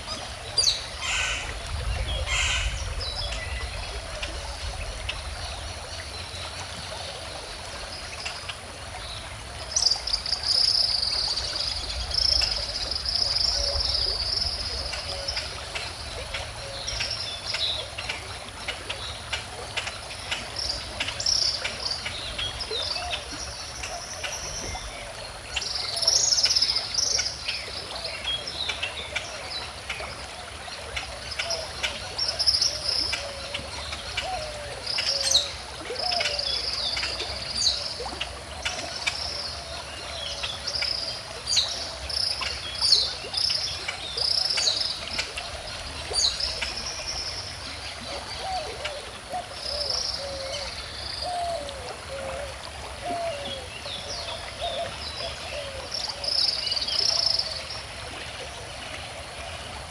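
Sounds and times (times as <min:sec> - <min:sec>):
gently flowing stream: 0:00.0 - 0:59.9.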